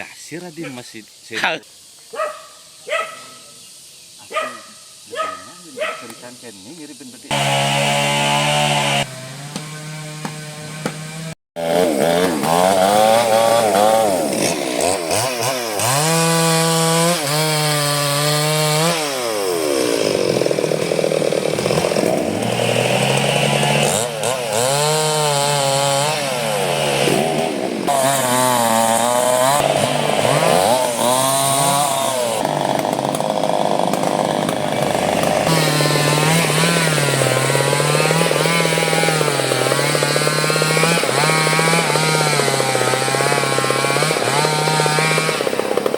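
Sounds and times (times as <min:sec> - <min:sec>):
chainsaw cutting wood: 0:07.2 - 0:45.9.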